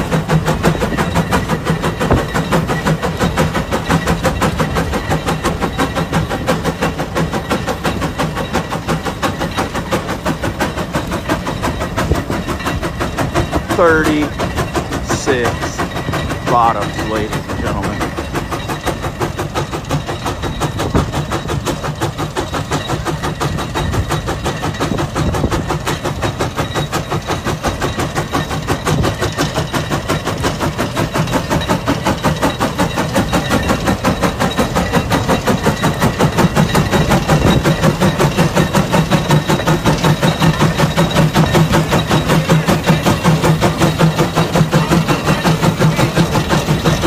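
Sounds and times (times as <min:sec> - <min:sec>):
steam engine exhaust chuffing: 0:00.0 - 0:47.0.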